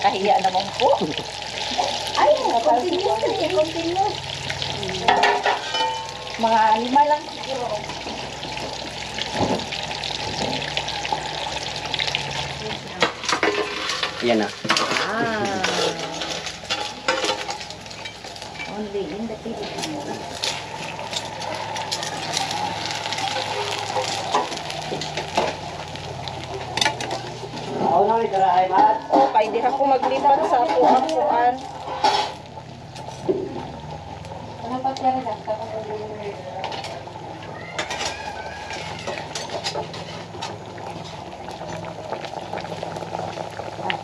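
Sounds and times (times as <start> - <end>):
food sizzling in a hot pan: 0.0 - 44.0
pot bubbling and crackling: 0.0 - 44.0.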